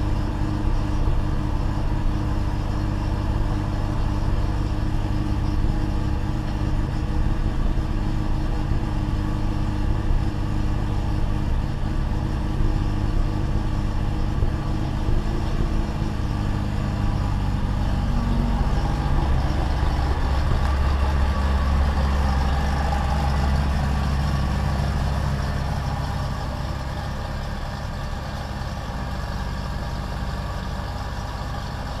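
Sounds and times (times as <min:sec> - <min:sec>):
rotary car engine running: 0:00.0 - 0:32.0.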